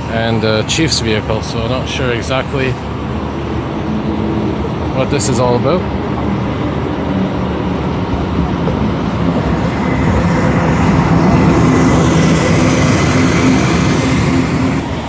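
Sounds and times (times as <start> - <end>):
large vehicle engine droning: 0.0 - 15.0.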